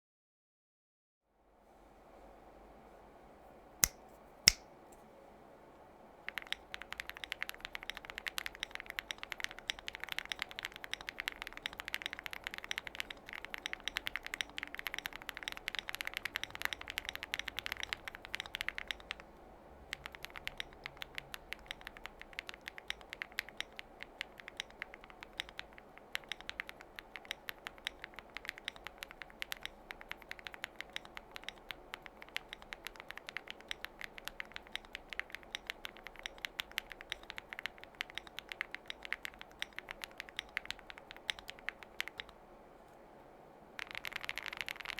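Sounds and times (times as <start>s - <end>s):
mechanical keyboard typing: 6.2s - 42.4s, 43.8s - 44.9s.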